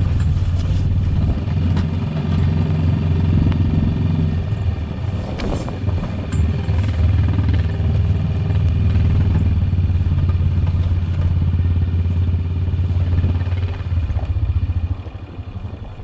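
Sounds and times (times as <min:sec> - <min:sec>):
atv engine droning: 0:00.0 - 0:16.0.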